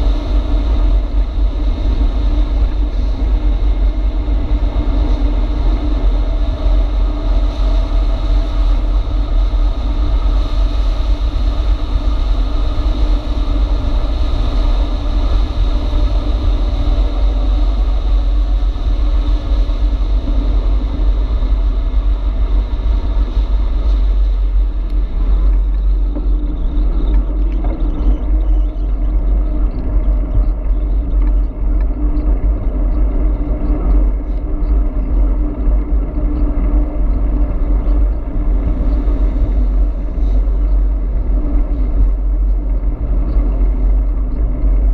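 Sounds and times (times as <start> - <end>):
wind buffeting the microphone: 0.0 - 44.9.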